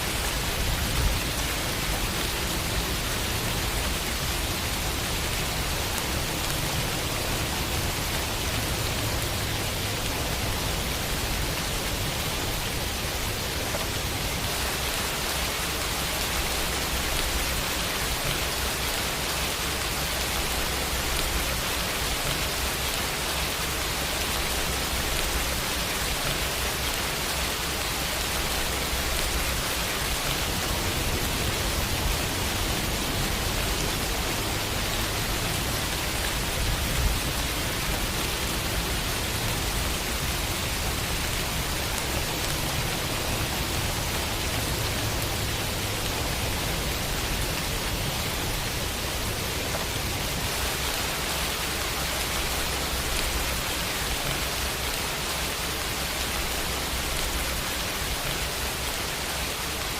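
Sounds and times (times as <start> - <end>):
rain falling on a window: 0.0 - 59.9.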